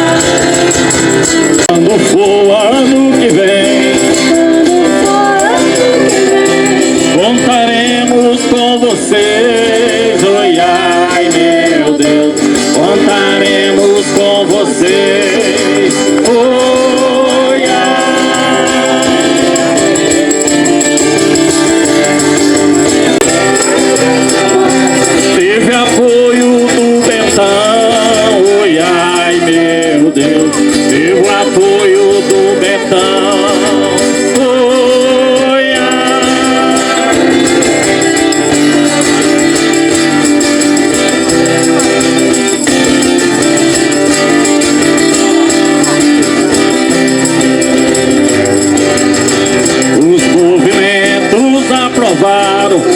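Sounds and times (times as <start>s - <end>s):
person singing with instruments: 0.0s - 52.9s
rattle shaker: 0.0s - 52.9s.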